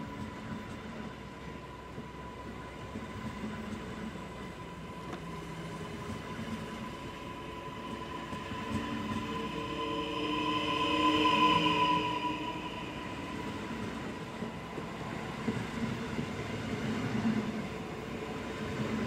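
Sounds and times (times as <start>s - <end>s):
steady high whine: 0.0s - 19.0s
train approaching: 0.0s - 19.0s.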